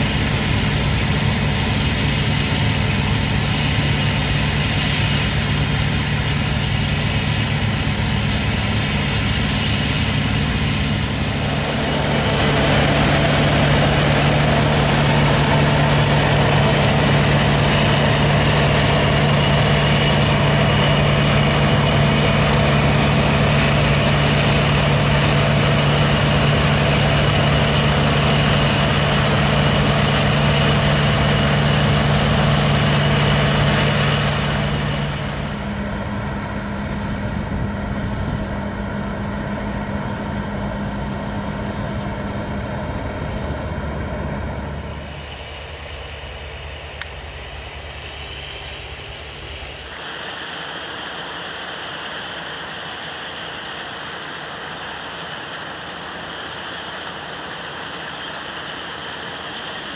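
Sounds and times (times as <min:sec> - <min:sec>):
combine harvester engine hum: 0:00.0 - 0:59.9
threshing machinery noise: 0:00.0 - 0:59.9.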